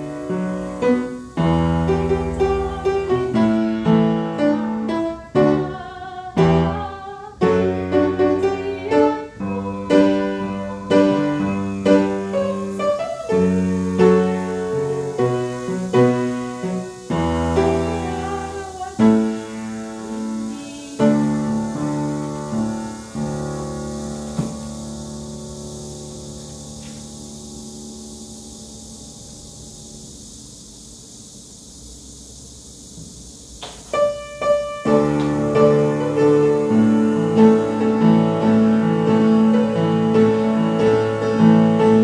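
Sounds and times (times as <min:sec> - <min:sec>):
slow piano chords: 0:00.0 - 0:30.1, 0:33.9 - 0:42.0.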